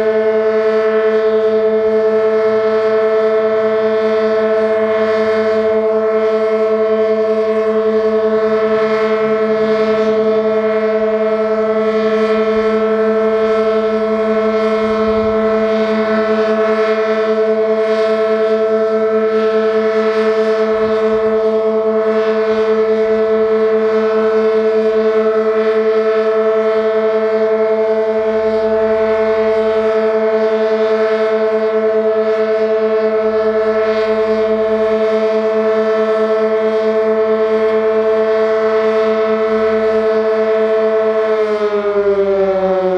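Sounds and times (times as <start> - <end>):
warning siren steady tone: 0.0 - 42.9.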